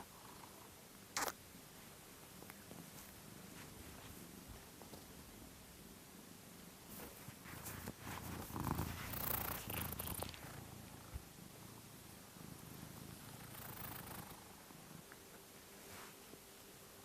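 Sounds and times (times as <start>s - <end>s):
cat purring: 0.0s - 1.3s, 2.6s - 16.3s.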